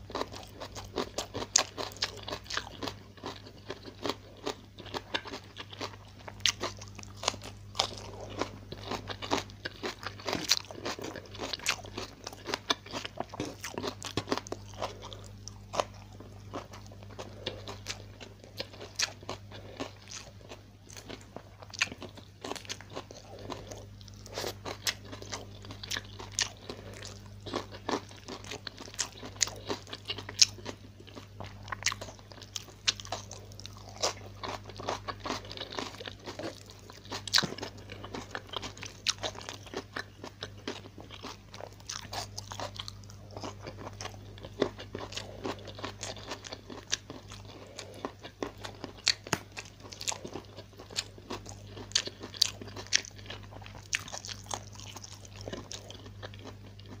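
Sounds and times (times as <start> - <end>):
person chewing and crunching food: 0.0 - 57.0
steady low hum: 0.0 - 57.0.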